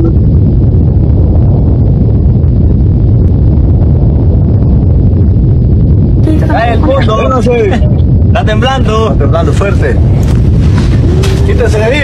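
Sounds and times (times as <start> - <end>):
deep earthquake rumble: 0.0 - 12.0.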